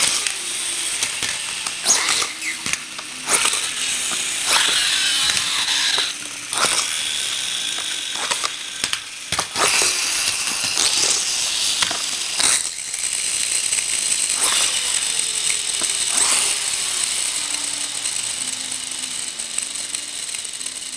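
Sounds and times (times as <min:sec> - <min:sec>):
toy cars clicking and knocking: 0:00.0 - 0:20.9
toy spring motors whirring: 0:00.0 - 0:20.9.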